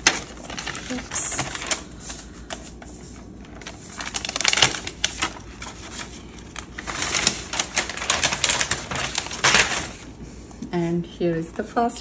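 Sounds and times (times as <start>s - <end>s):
plastic wrap crinkling: 0.0s - 10.5s.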